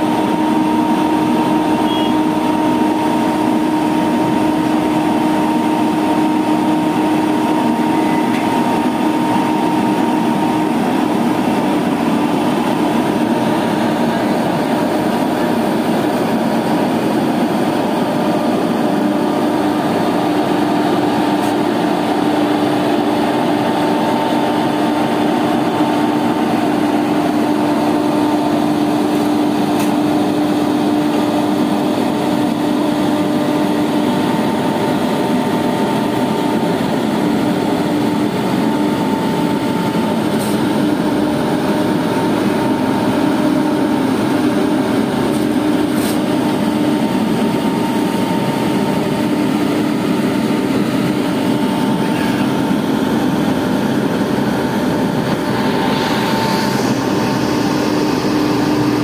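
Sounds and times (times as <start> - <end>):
paver diesel engine droning: 0.0 - 59.0.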